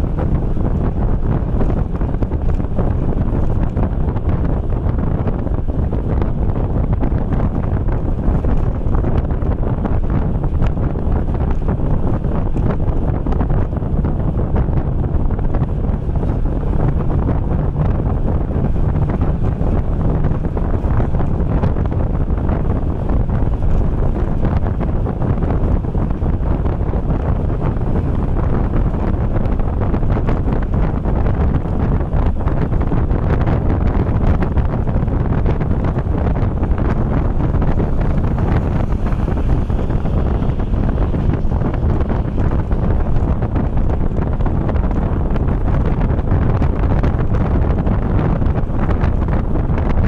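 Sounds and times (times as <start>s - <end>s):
vehicle rumbling on concrete road: 0.0s - 50.0s
wind buffeting microphone: 0.0s - 50.0s.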